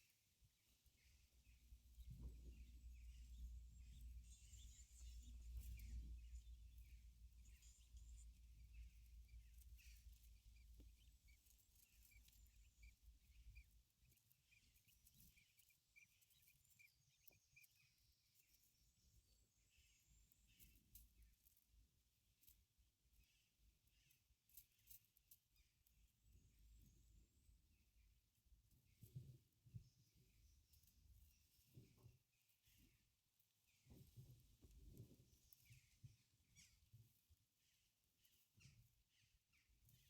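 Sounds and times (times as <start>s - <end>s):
quail chirping softly: 0.0s - 40.0s.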